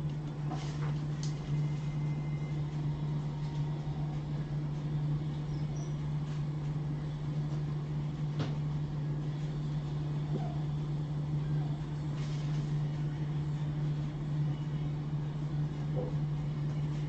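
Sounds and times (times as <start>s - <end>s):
low hum of room equipment: 0.0s - 17.0s.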